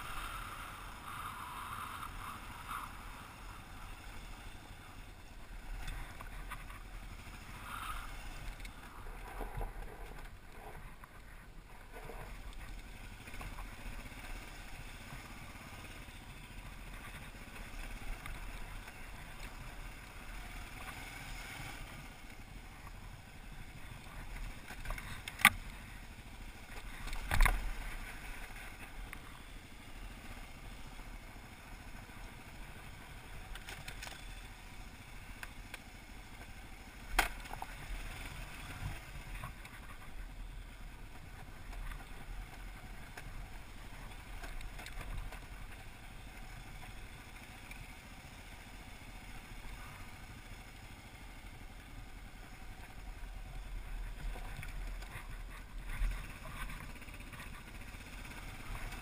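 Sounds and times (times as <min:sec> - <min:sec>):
motorcycle riding on gravel: 0:00.0 - 0:59.0.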